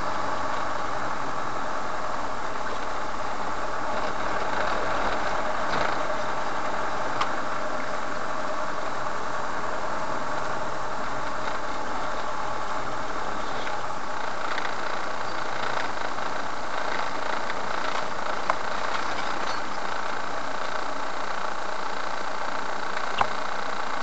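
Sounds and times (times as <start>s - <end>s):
car engine running: 0.0s - 24.0s
road and cabin noise: 0.0s - 24.0s.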